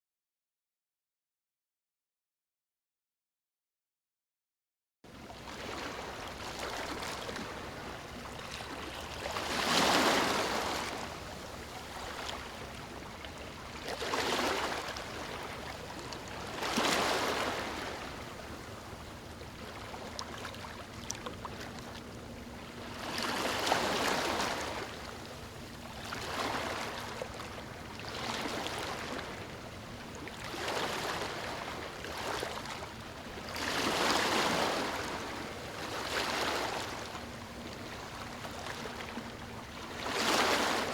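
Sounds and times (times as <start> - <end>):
ocean waves breaking on shore: 5.1 - 40.9.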